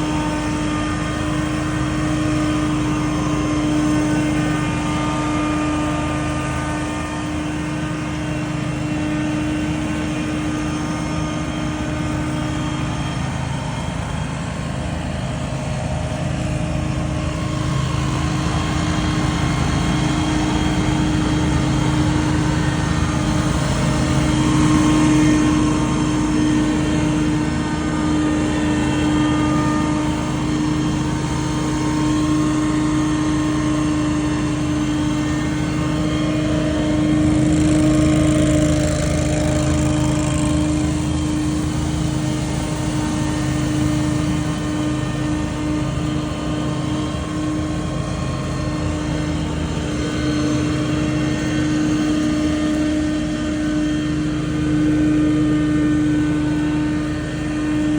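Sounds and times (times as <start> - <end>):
debris blower engine drone: 0.0 - 57.9
fan rushing whine: 0.0 - 57.9.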